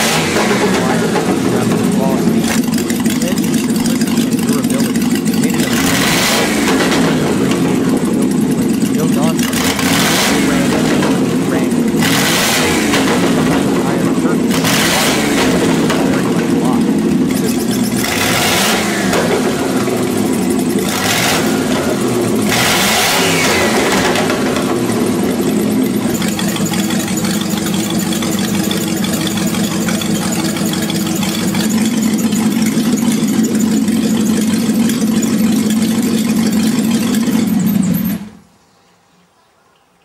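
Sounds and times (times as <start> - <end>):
car engine revving: 0.0 - 38.5.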